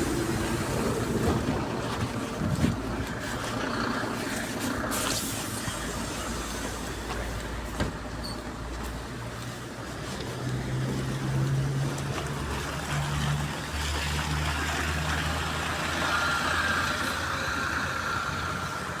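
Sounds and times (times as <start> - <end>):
bus engine humming: 0.0 - 19.0.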